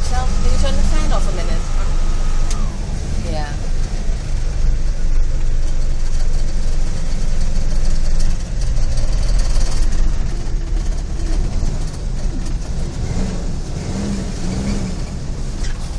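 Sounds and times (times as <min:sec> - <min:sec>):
engine fan rushing: 0:00.0 - 0:15.9
truck engine running: 0:00.0 - 0:15.9.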